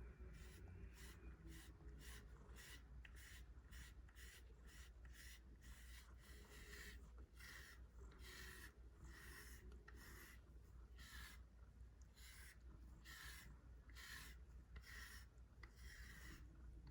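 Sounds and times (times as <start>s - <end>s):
brush swishing through cat fur: 0.0s - 16.8s.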